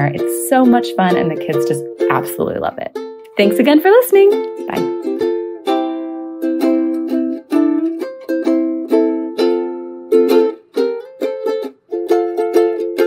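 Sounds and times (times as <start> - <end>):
acoustic string instrument strumming: 0.0 - 13.0.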